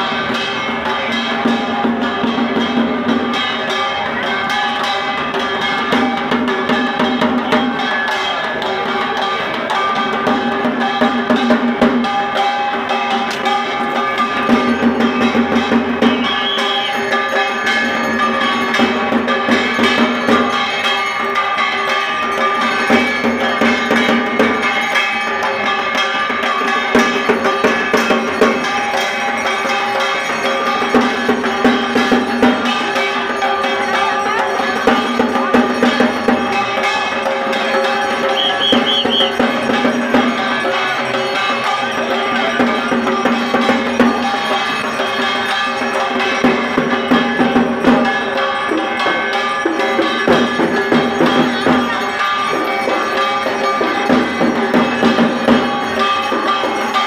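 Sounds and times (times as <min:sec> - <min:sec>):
brass bells ringing rapidly: 0:00.0 - 0:57.0
clattering percussion: 0:00.0 - 0:57.0.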